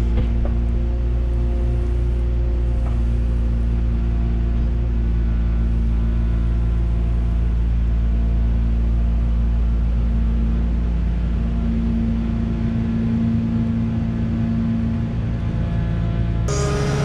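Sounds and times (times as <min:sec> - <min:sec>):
wheel loader diesel engine running: 0:00.0 - 0:17.0.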